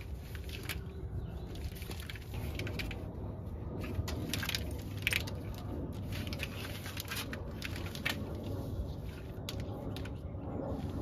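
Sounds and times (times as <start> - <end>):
steady low rumble: 0.0 - 11.0
wires crackling and scraping: 0.0 - 11.0.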